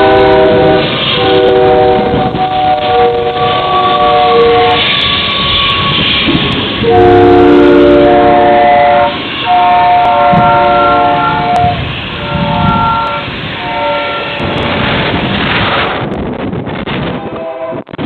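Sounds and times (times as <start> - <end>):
locomotive air horn blasts: 0.0 - 14.9, 17.1 - 17.9
passing train rumble: 0.0 - 18.0.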